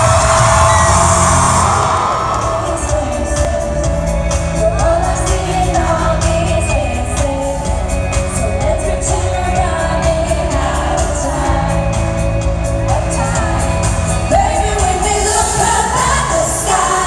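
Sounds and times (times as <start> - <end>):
live pop band with lead vocal: 0.0 - 17.0.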